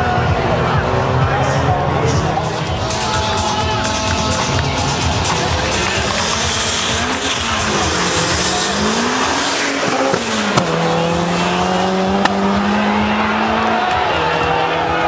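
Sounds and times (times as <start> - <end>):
racing cars accelerating: 0.0 - 15.0.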